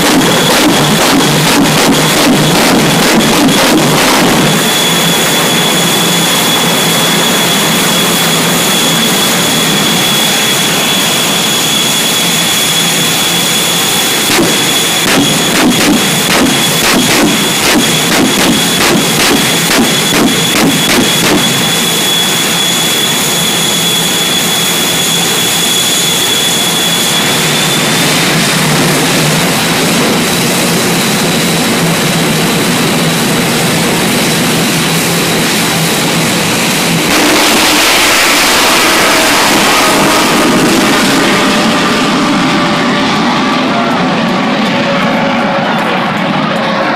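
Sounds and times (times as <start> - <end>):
jet engines whining and roaring: 0.0 - 46.9.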